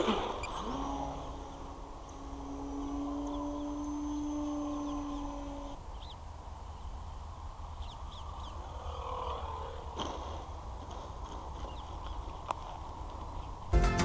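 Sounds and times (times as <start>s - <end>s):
electric motor humming: 0.0s - 13.7s
faint bird chirps: 0.0s - 13.7s.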